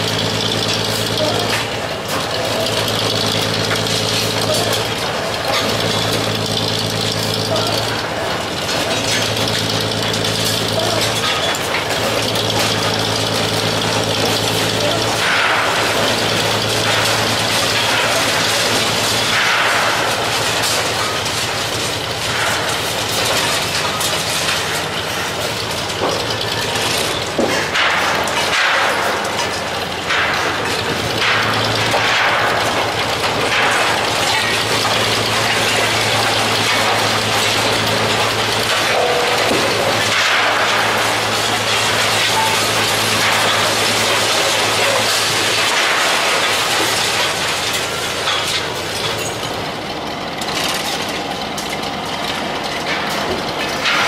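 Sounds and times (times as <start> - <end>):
concrete cracking: 0.0 - 54.0
diesel demolition machinery running: 0.0 - 54.0
rubble clattering down: 0.1 - 49.7.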